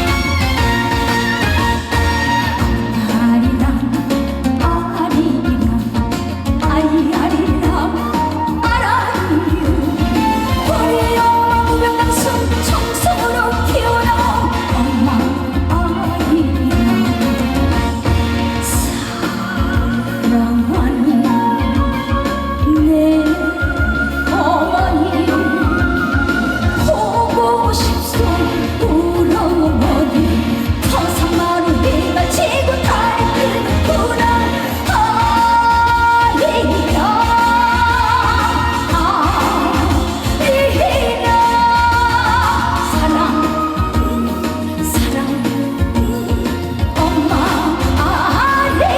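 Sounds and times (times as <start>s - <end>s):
band with pulsing bass: 0.0s - 48.9s
woman singing: 0.0s - 48.9s.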